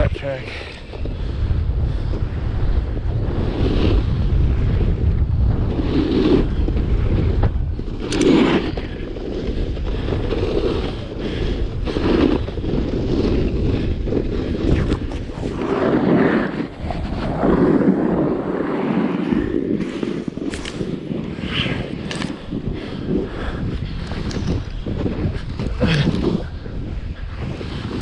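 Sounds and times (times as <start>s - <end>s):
snowboard sliding over snow: 0.0s - 28.0s
wind buffeting microphone: 0.0s - 28.0s.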